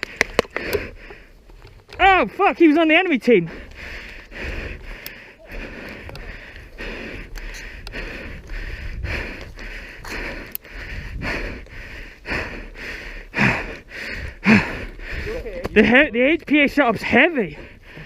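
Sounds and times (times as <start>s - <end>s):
person panting hard: 0.0s - 1.4s, 3.3s - 16.0s, 17.0s - 18.0s.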